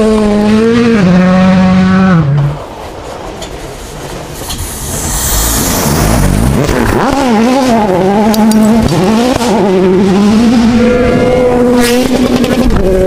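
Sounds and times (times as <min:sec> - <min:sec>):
rally car engine revving: 0:00.0 - 0:02.8, 0:04.0 - 0:13.0.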